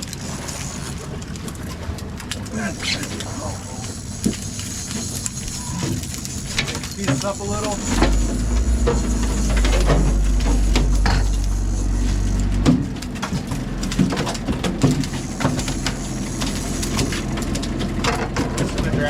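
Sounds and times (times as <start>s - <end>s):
boat engine rumble: 0.0s - 19.0s
water noise: 0.0s - 19.0s.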